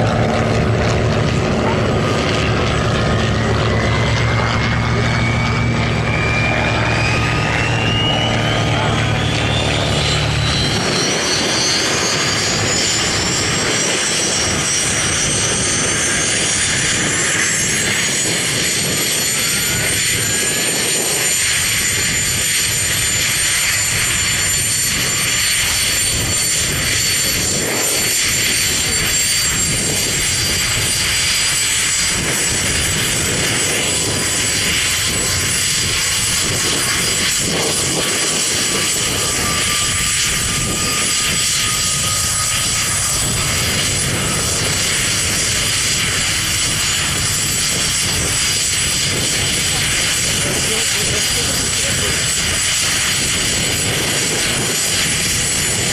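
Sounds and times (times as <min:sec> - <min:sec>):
helicopter turbine whine: 0:00.0 - 0:55.9
rushing rotor noise: 0:00.0 - 0:55.9.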